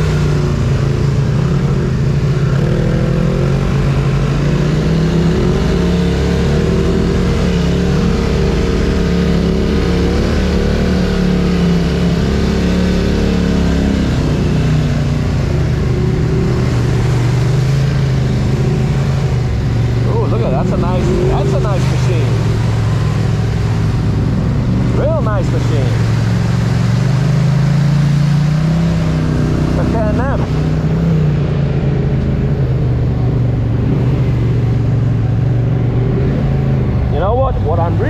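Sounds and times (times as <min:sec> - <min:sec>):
atv engine running: 0:00.0 - 0:38.0
tyre and trail noise: 0:00.0 - 0:38.0.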